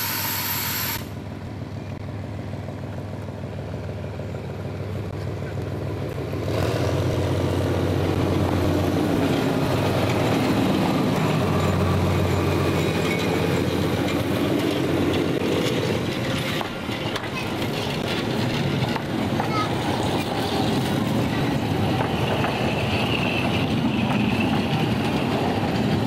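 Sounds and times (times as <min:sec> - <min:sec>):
diesel locomotive engine drone: 0:00.0 - 0:26.0
coaches rolling on rails: 0:01.3 - 0:26.0.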